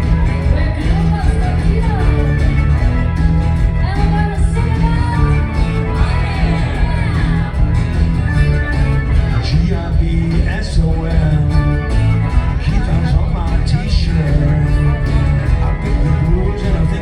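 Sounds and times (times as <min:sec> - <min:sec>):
heavy bass: 0:00.0 - 0:17.0
live rock band playing: 0:00.0 - 0:17.0
person singing: 0:00.0 - 0:17.0.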